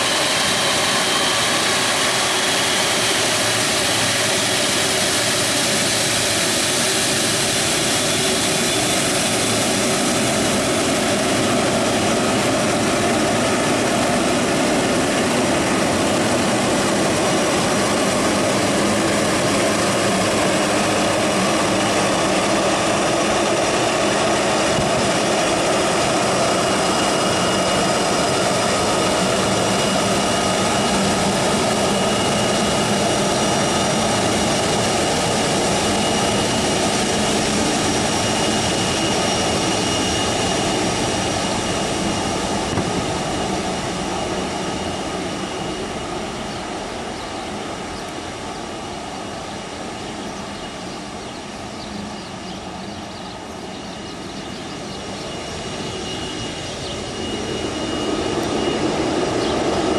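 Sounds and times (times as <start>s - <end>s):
jet engines at takeoff thrust: 0.0s - 59.9s.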